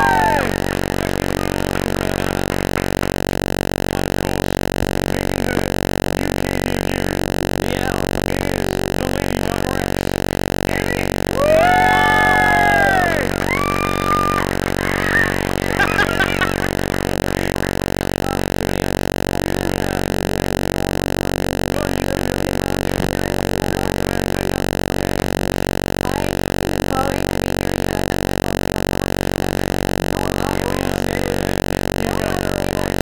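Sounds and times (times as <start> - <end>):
steady buzzing drone: 0.0 - 33.0.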